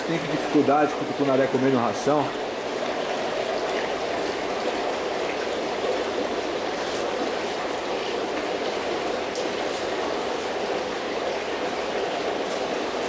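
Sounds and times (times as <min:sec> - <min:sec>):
aquarium water splashing: 0:00.0 - 0:13.0.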